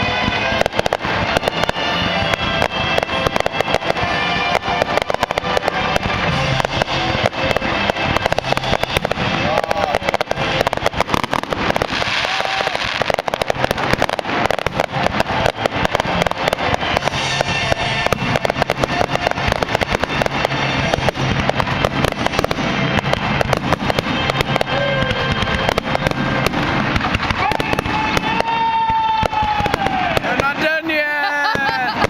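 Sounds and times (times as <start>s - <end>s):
fireworks bangs and crackles: 0.0s - 32.0s
music: 0.0s - 32.0s.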